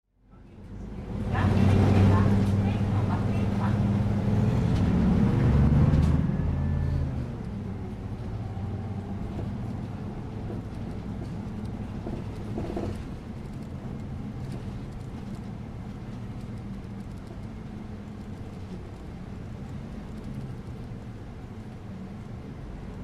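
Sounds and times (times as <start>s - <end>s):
bus engine and road rumble: 0.1s - 23.0s.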